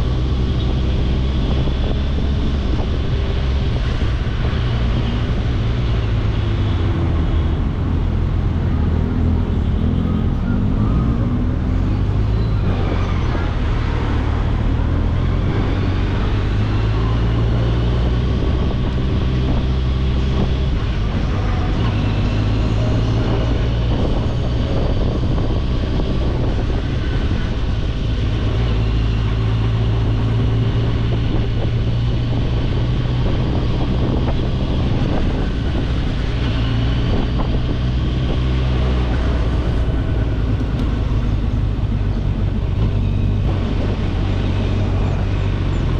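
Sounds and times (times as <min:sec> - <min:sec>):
motorcycle engine running: 0:00.0 - 0:45.9
wind noise: 0:00.0 - 0:45.9.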